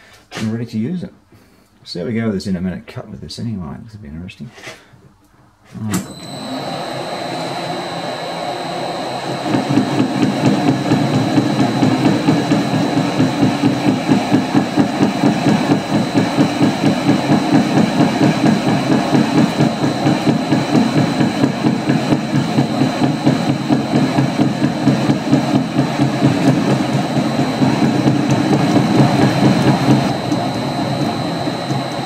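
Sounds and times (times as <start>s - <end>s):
metal lathe whine: 6.0s - 32.0s.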